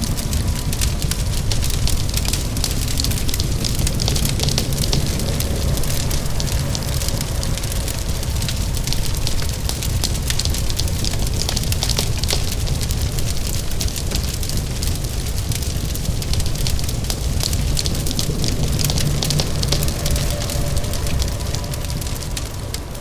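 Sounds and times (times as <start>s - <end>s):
rain falling: 0.0s - 23.0s
wood fire crackling: 0.0s - 23.0s.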